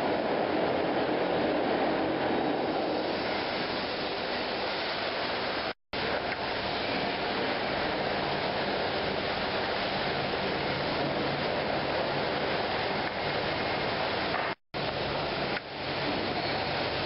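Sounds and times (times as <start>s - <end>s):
machinery rushing noise: 0.0s - 17.0s.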